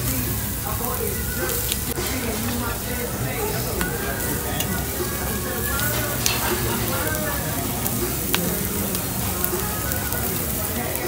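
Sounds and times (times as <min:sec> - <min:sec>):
meat sizzling on grill: 0:00.0 - 0:11.0
metal tongs clicking on grill: 0:00.1 - 0:11.0.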